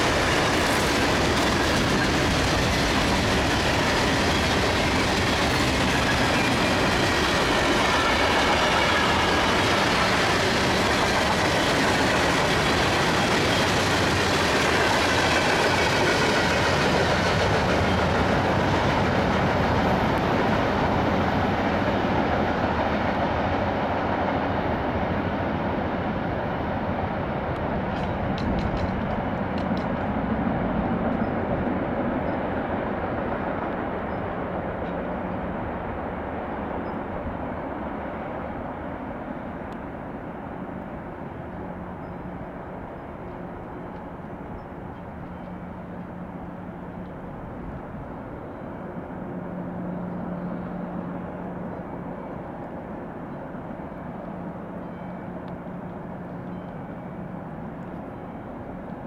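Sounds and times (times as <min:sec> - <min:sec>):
freight train rolling on rails: 0:00.0 - 0:59.0.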